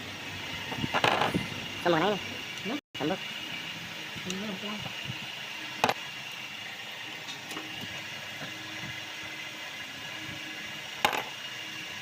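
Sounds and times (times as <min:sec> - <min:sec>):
workshop hum: 0:00.0 - 0:12.0.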